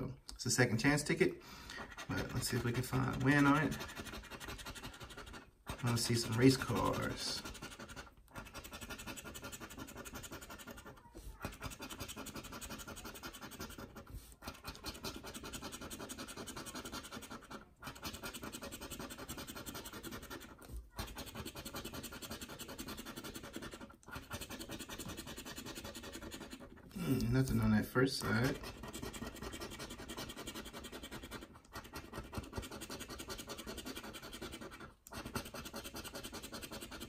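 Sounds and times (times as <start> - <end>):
scratching lottery ticket coating: 0.8 - 37.0.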